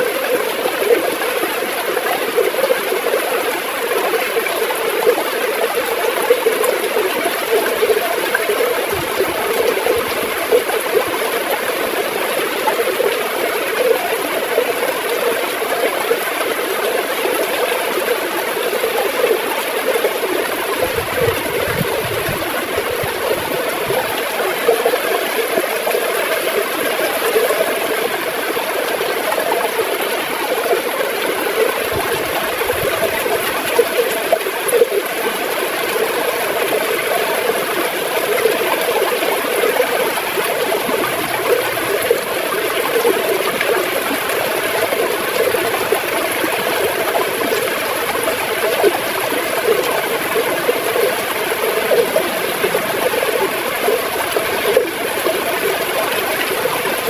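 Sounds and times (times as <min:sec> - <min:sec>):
river water gurgling: 0:00.0 - 0:57.0.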